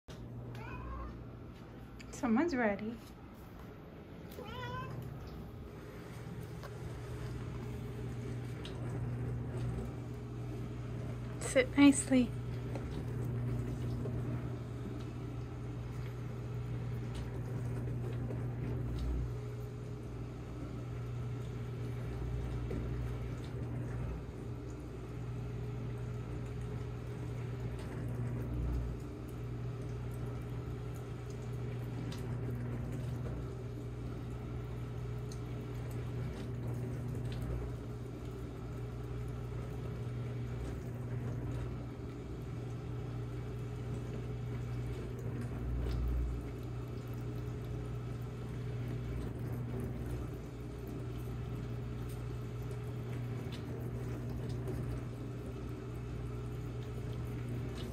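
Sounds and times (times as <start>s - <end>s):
appliance humming: 0.0s - 57.9s.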